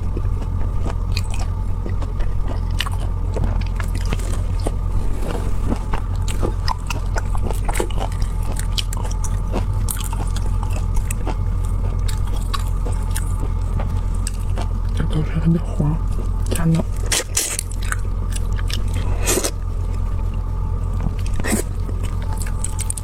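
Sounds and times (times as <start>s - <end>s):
chewing and crunching prawns: 0.0s - 23.0s
low hum: 0.0s - 23.0s.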